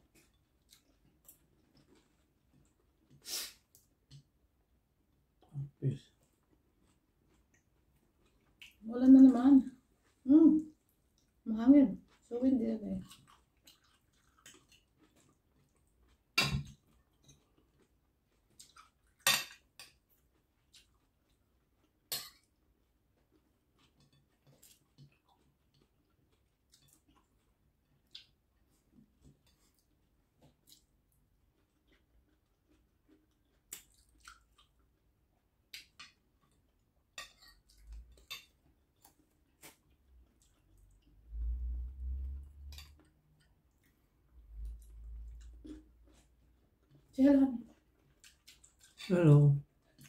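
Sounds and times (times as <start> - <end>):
chewing: 0.0 - 4.3, 6.1 - 11.4, 12.9 - 50.0.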